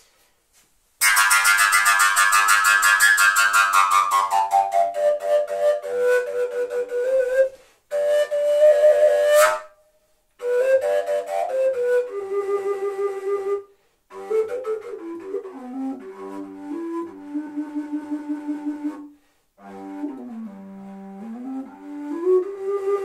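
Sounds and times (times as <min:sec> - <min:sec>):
overtone flute melody: 0:01.0 - 0:23.0.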